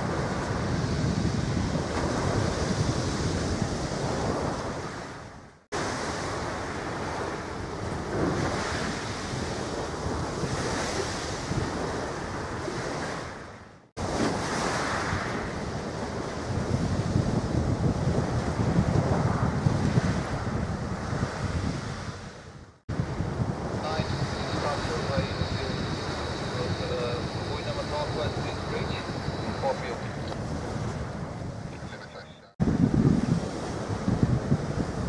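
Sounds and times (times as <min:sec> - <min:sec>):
waves washing on shore: 0:00.0 - 0:35.0
wind on microphone: 0:00.0 - 0:35.0.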